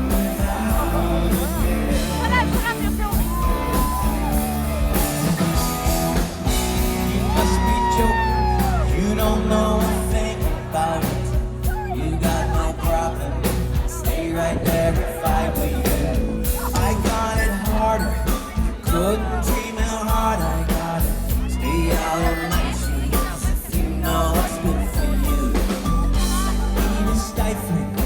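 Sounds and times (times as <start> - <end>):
live pop-rock band: 0.0 - 28.0
person singing lead vocal: 0.0 - 28.0.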